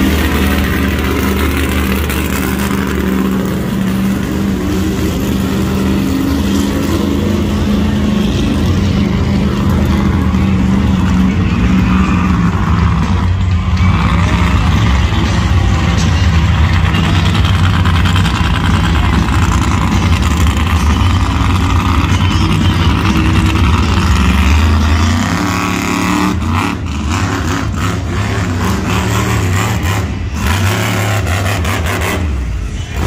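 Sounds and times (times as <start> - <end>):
loud truck engine running: 0.0 - 33.0.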